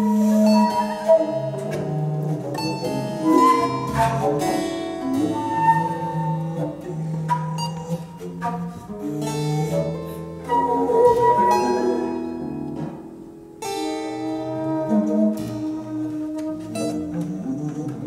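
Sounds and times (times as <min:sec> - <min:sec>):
held woodwind tones: 0:00.0 - 0:12.7, 0:14.2 - 0:18.0
plucked harp and harpsichord notes: 0:00.0 - 0:18.0.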